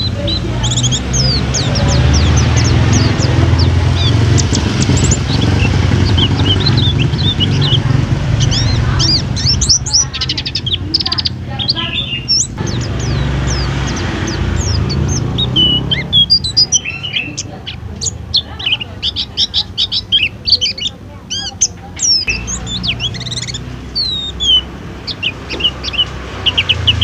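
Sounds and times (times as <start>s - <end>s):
bird singing chirps and trills: 0.0s - 27.0s.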